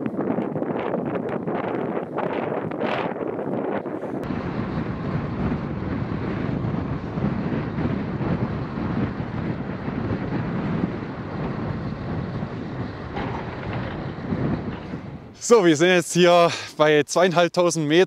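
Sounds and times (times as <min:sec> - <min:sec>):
wind blowing across microphone: 0:00.0 - 0:16.5.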